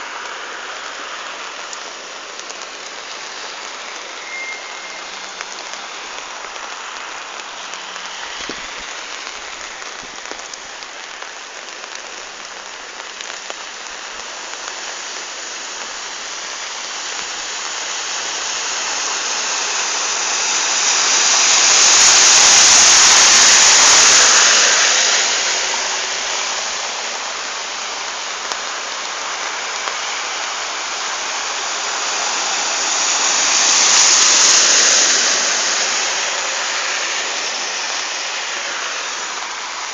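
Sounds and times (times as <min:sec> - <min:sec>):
cars driving through water: 0:00.0 - 0:39.9
rain hissing on flooded street: 0:00.0 - 0:39.9.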